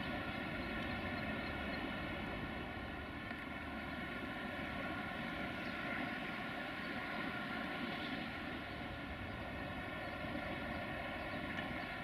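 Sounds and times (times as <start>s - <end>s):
machine hum with steady tones: 0.0s - 12.0s.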